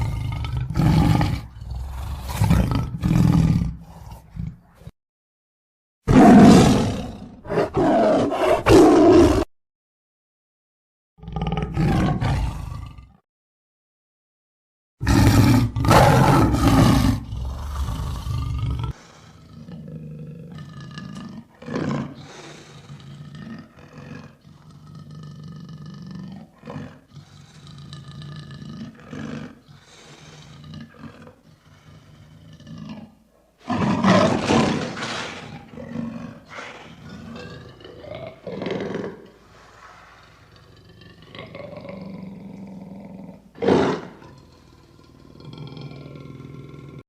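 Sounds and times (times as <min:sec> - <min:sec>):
lion roaring: 0:00.0 - 0:04.9, 0:06.1 - 0:09.5, 0:11.2 - 0:13.2, 0:15.0 - 0:47.0.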